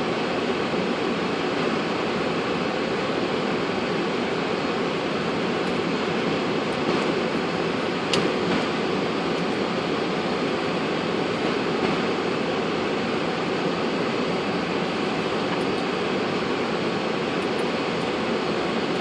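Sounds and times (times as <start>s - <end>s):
air-conditioning airflow: 0.0s - 19.0s
jet engines running: 0.0s - 19.0s.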